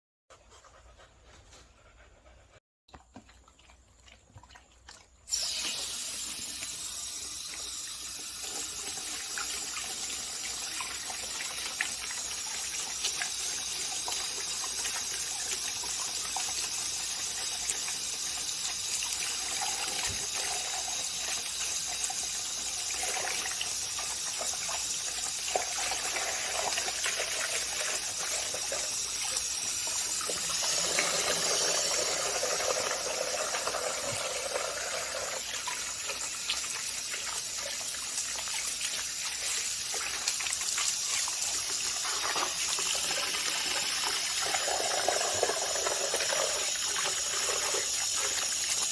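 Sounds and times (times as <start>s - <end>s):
running water gushing: 5.3s - 48.9s.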